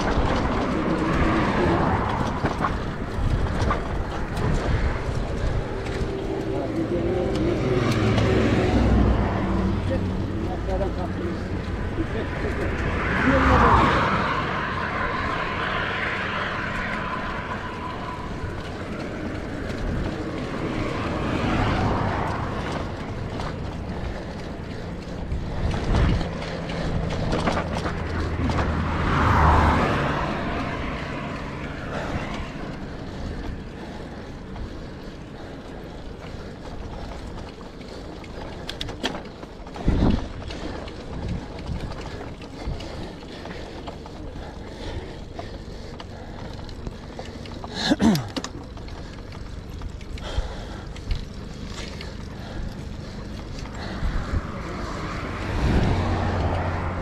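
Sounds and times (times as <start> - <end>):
motor vehicles passing: 0.0 - 57.0
wind and road noise from bicycle: 0.0 - 57.0.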